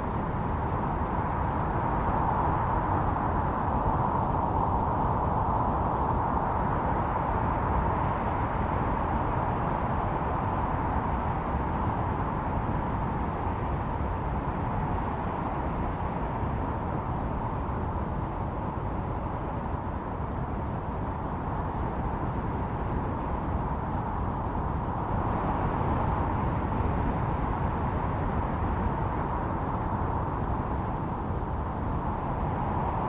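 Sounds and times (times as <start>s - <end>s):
blizzard wind howling: 0.0s - 33.0s.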